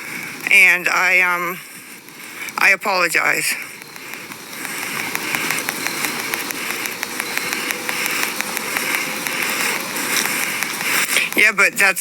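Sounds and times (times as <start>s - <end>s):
rain drops tapping: 0.0s - 12.0s.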